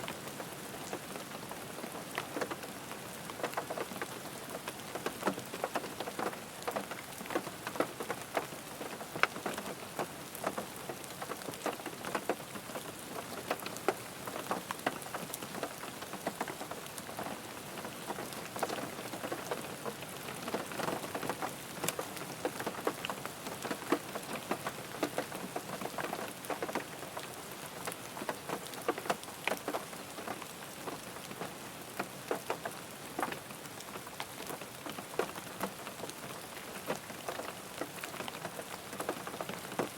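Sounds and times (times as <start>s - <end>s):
rain on car roof: 0.1s - 39.9s.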